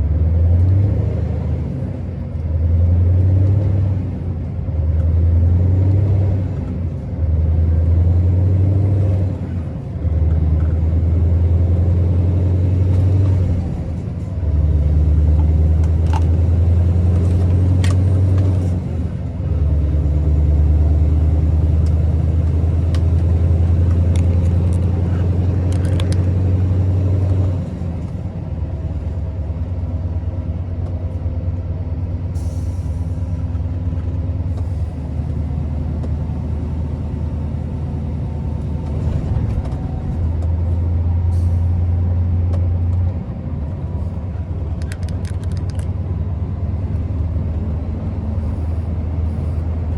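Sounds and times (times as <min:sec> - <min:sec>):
truck diesel engine droning: 0:00.0 - 0:49.9.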